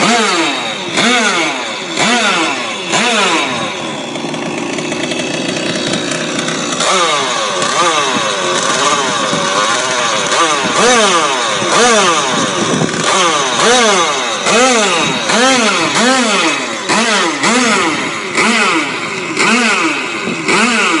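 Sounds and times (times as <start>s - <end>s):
moped engine revving: 0.0s - 21.0s.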